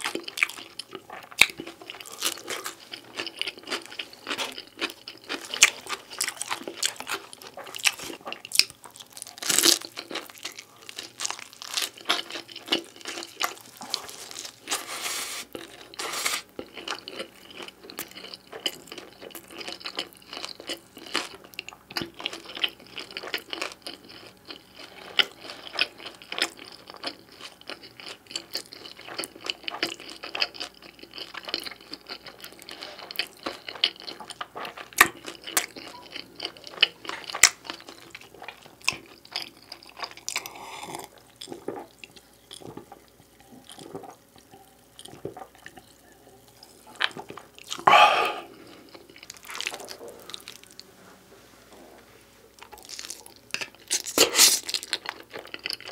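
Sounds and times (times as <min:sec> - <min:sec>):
chewing and crunching crust: 0:00.0 - 0:50.9, 0:52.5 - 0:55.9.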